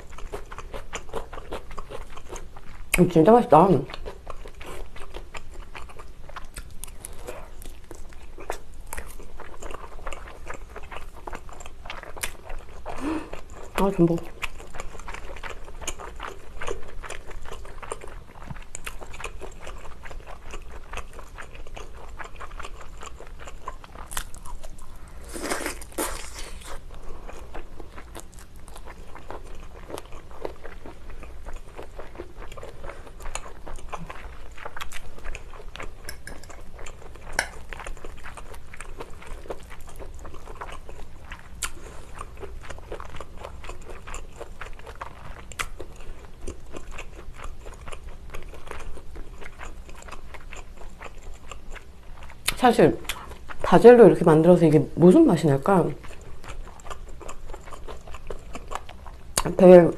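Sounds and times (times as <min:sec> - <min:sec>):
person chewing food: 0:00.0 - 0:03.0, 0:03.8 - 0:53.7, 0:56.0 - 0:59.5.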